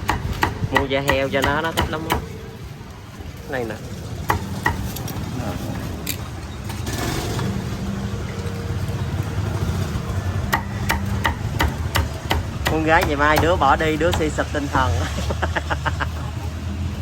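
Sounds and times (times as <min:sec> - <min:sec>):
vehicle engine running: 0:02.4 - 0:17.0.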